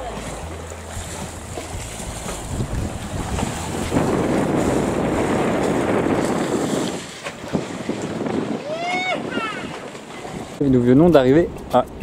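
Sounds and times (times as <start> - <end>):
water rushing along hull: 0.0 - 12.0
wind buffeting microphone: 0.9 - 12.0.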